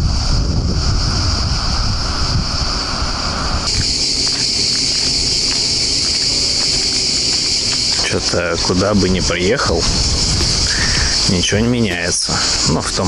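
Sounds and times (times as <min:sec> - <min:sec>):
cicadas droning: 0:00.0 - 0:13.0
wind buffeting microphone: 0:00.0 - 0:13.0.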